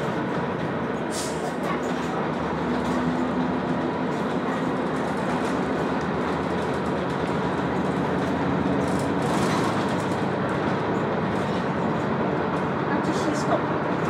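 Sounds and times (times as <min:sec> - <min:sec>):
bus diesel engine rumble: 0:00.0 - 0:14.0
road and body noise: 0:00.0 - 0:14.0.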